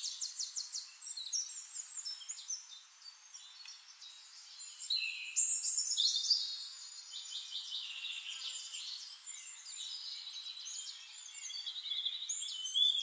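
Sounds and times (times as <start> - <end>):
birds singing and calling: 0.0 - 13.0.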